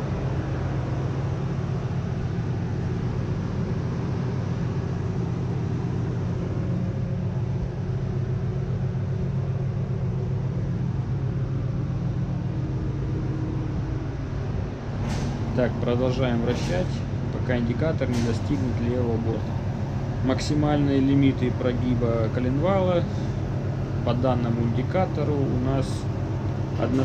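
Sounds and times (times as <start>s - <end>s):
engine-room machinery drone: 0.0s - 27.0s.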